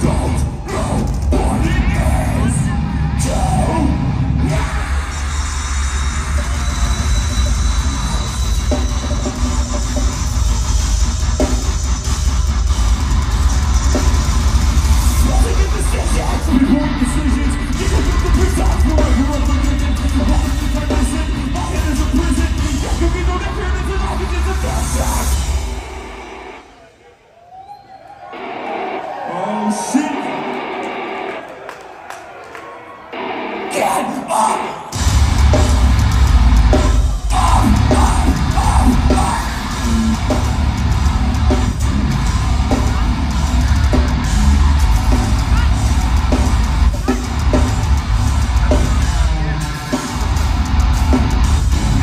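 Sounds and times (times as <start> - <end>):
harsh yelled vocals: 0.0 - 8.2, 12.9 - 52.0
distorted guitars and bass: 0.0 - 26.7, 28.3 - 31.5, 33.1 - 52.0
metal band playing: 0.0 - 26.8, 33.1 - 52.0
drums: 0.0 - 52.0.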